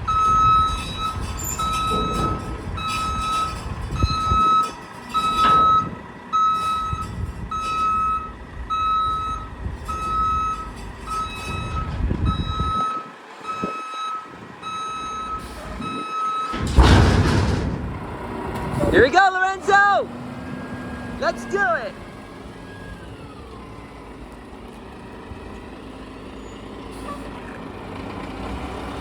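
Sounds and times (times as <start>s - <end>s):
truck backup alarm beeping: 0.0s - 27.3s
diesel engine rumble: 0.0s - 29.0s.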